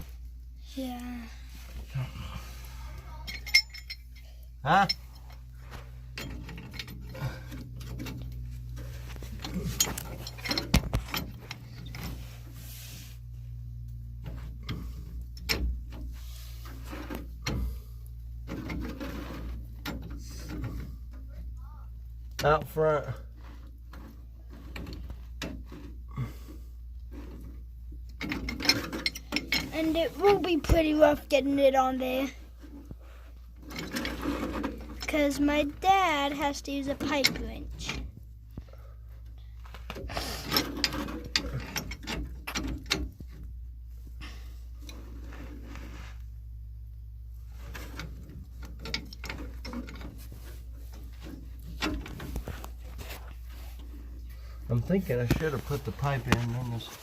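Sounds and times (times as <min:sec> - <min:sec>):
low steady hum: 0:00.0 - 0:57.0
pipe fittings knocking and scraping: 0:03.2 - 0:12.6, 0:13.6 - 0:21.3, 0:22.3 - 0:31.8, 0:32.5 - 0:46.5, 0:47.4 - 0:57.0.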